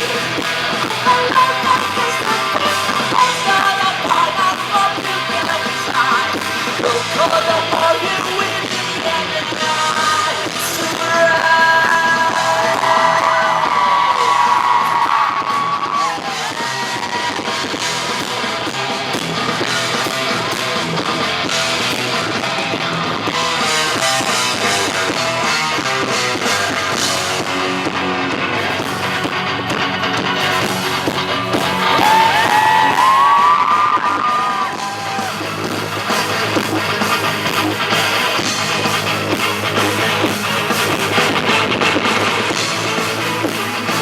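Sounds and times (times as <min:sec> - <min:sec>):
distorted live rock band: 0:00.0 - 0:44.0
electric guitar lead line: 0:00.0 - 0:44.0.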